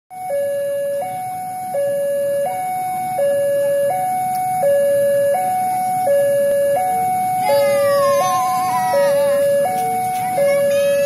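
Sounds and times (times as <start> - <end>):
two-tone level-crossing alarm: 0.1 - 11.0.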